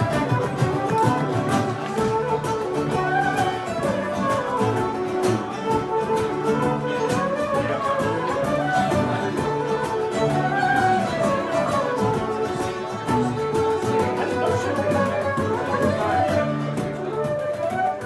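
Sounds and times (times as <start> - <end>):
guitar strumming: 0.0 - 17.8
fiddles playing lively tune: 0.0 - 18.0.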